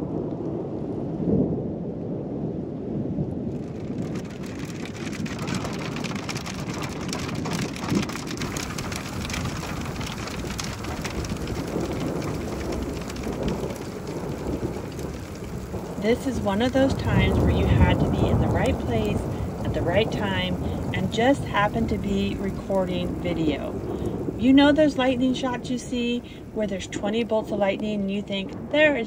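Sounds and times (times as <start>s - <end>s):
heavy rain: 0.0s - 29.0s
thunder rumbling: 0.0s - 29.0s.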